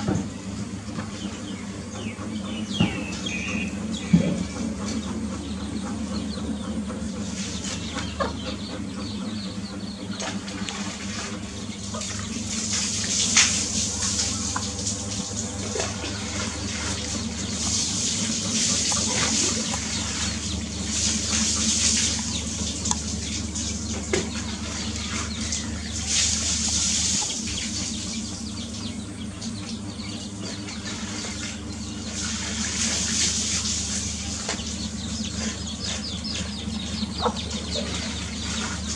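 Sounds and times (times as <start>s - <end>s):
hen clucking: 0.0s - 33.3s, 34.3s - 38.9s
chicks peeping: 0.0s - 38.9s
steady low hum: 0.0s - 38.9s.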